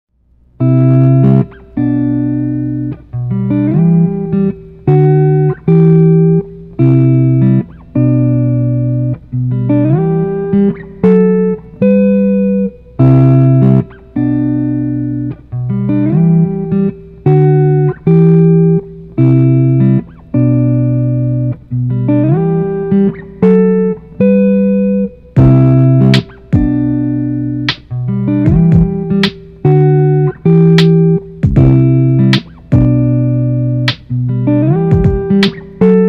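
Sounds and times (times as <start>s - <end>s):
guitar chords ringing: 0.4s - 36.0s.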